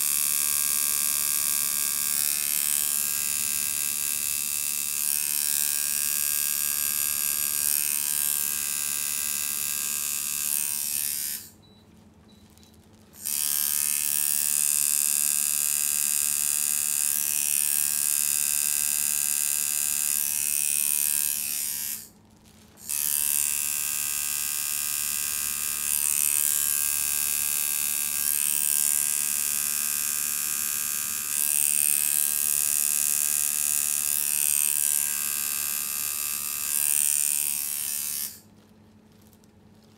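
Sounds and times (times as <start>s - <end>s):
tattoo machine buzzing: 0.0s - 11.6s, 13.2s - 22.1s, 22.8s - 38.5s.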